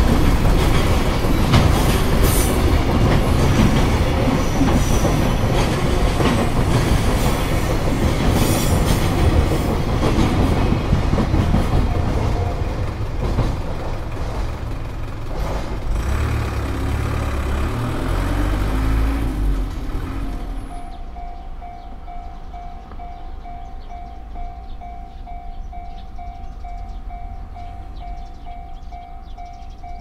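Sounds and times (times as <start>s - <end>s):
train wheels clattering over rails: 0.0s - 24.8s.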